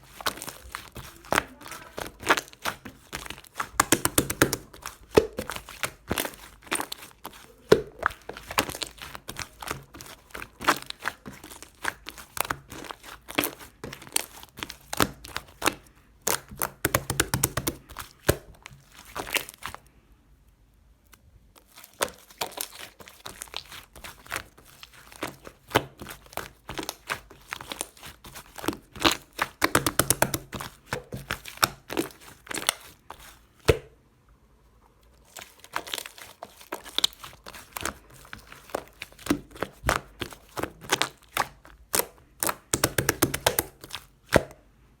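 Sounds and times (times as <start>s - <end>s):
slime crackling and popping: 0.0s - 19.8s, 21.1s - 33.9s, 35.2s - 44.5s.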